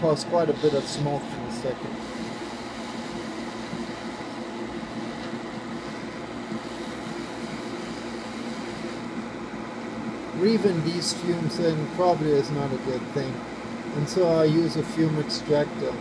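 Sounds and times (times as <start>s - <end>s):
fume extractor fan whirring: 0.0s - 16.0s.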